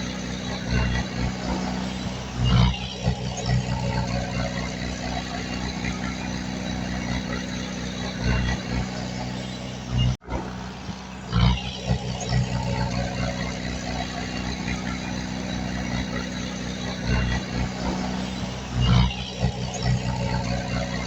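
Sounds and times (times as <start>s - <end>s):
heavy machinery diesel engine running: 0.0s - 21.0s.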